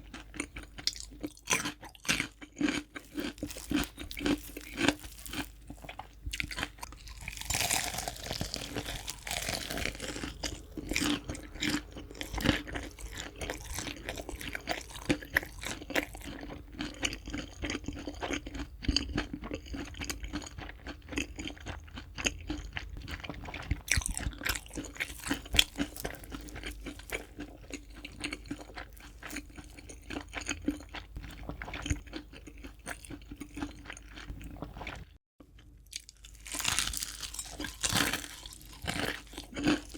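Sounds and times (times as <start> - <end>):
crunching crispy fried chicken: 0.0 - 39.9.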